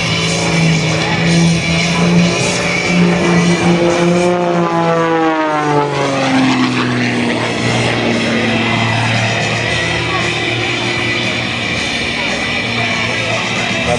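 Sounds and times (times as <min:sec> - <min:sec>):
propeller plane engine passing: 0:00.0 - 0:13.9.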